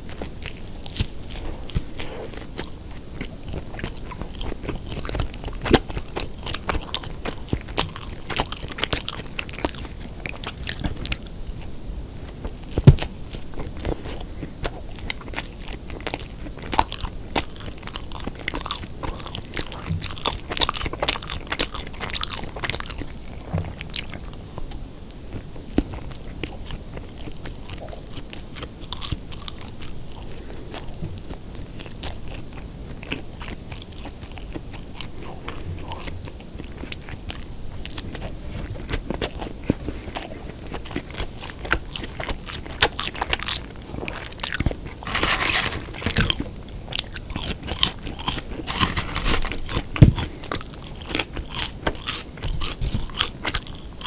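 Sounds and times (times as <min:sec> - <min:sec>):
close chewing with wet crunches: 0:00.0 - 0:54.0.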